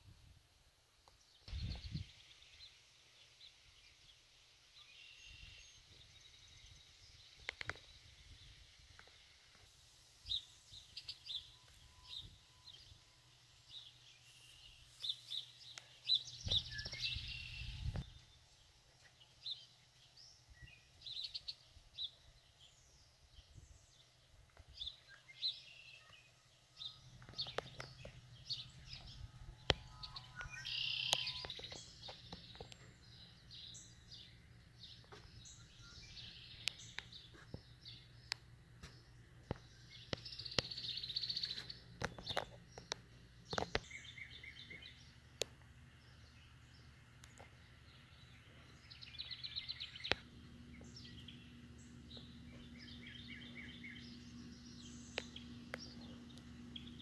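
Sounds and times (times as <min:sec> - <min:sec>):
faint low hum: 0:00.0 - 0:57.0
small birds chirping: 0:01.0 - 0:57.0.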